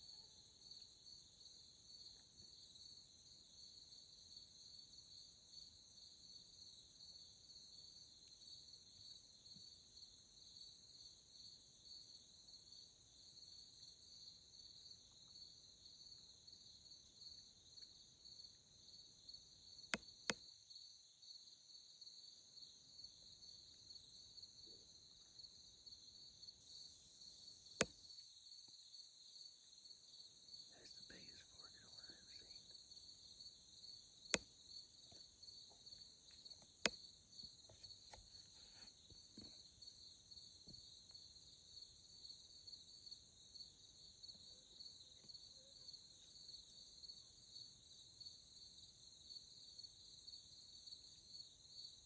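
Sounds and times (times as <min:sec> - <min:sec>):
faint crickets trilling: 0:00.0 - 0:52.0.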